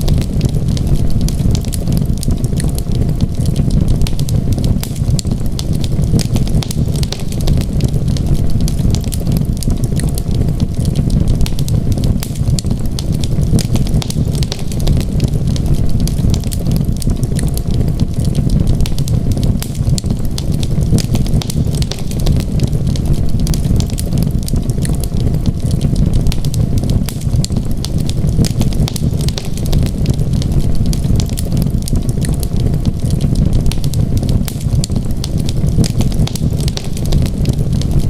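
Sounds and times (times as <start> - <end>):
low fire rumble: 0.0 - 38.0
wood fire crackling: 0.0 - 38.0.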